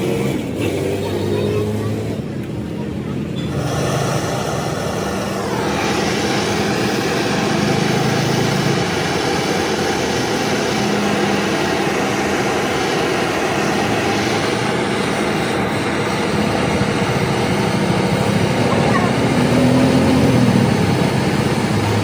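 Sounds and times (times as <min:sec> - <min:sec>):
loud steady machine noise: 0:00.0 - 0:22.0
falling whine: 0:02.2 - 0:22.0.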